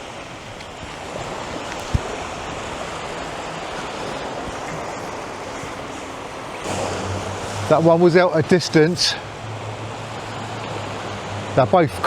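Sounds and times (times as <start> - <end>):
sea surf washing on beach: 0.0 - 12.0.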